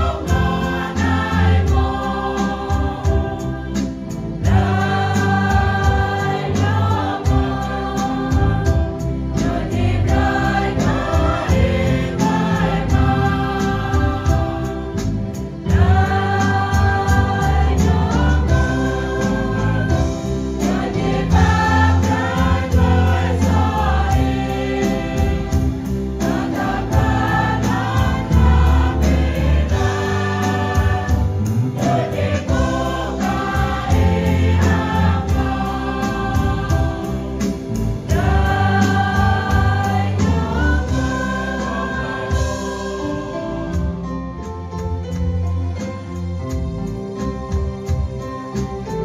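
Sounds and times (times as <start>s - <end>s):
women's choir singing a hymn: 0.0s - 44.3s
band with deep bass: 0.0s - 49.0s
guitar: 0.0s - 49.0s.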